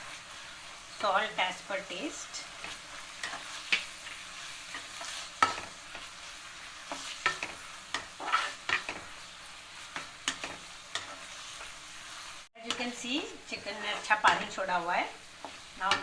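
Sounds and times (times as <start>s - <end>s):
meat sizzling in a wok: 0.0s - 16.0s
spatula scraping a pan: 0.0s - 16.0s.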